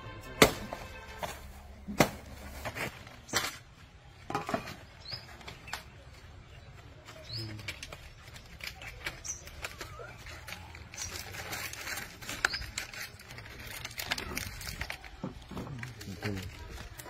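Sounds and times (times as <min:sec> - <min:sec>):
palm fronds rustling: 0:00.2 - 0:17.0
leaves crackling: 0:00.4 - 0:17.0.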